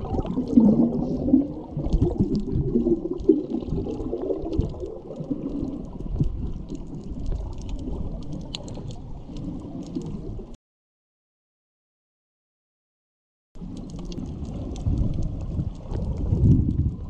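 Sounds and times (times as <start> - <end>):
faint clicks and crackles: 0.0 - 10.6, 13.6 - 17.0
fins swishing and bubbles: 0.0 - 10.6, 13.6 - 17.0
muffled underwater rumble: 0.0 - 10.6, 13.6 - 17.0.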